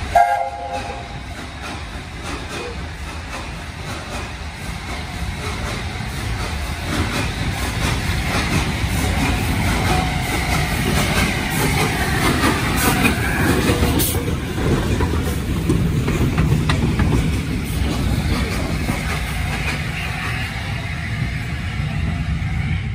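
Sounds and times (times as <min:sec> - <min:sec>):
steam train rumbling past: 0:00.0 - 0:22.9.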